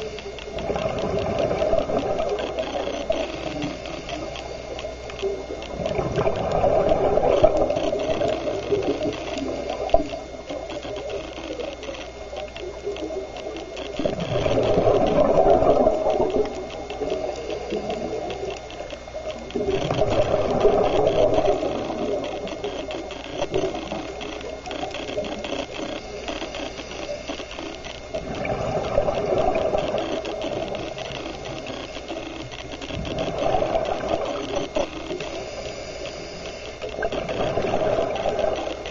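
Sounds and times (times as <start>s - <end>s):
exhaled bubbles underwater: 0.0s - 38.9s.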